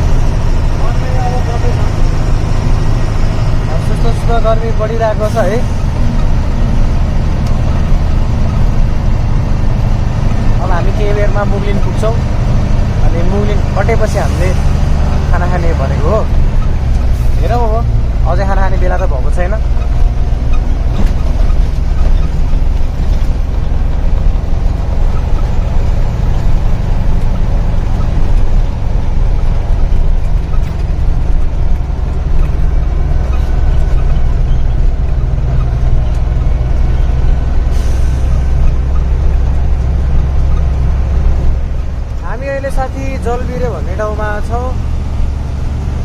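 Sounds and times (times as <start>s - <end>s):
truck engine and road noise: 0.0s - 46.0s.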